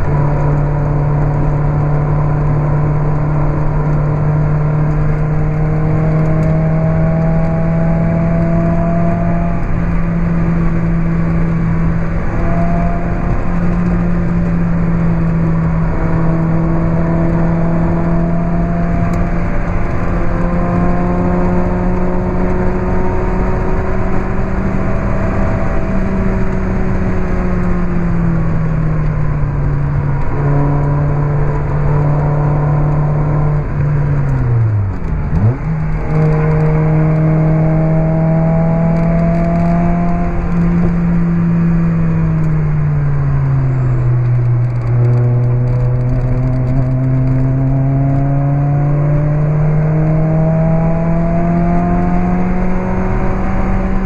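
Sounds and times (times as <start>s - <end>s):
car engine pulling hard: 0.0s - 54.0s.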